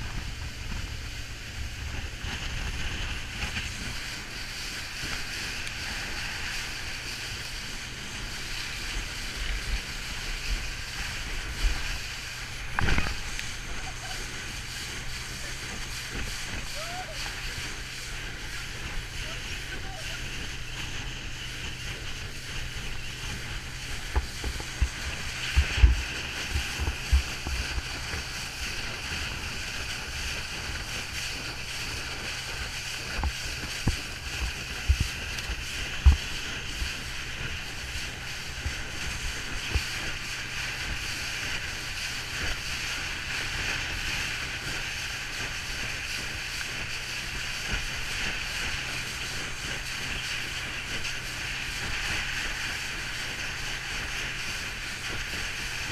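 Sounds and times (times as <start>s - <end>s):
motorboat engine drone: 0.0s - 55.9s
water and wind rush: 0.0s - 55.9s.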